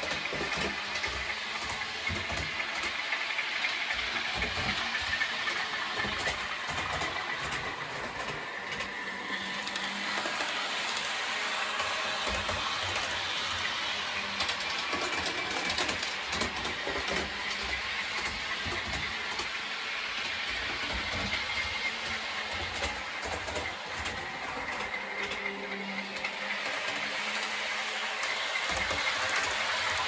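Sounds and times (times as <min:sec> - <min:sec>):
model train wheels clicking: 0:00.0 - 0:30.0.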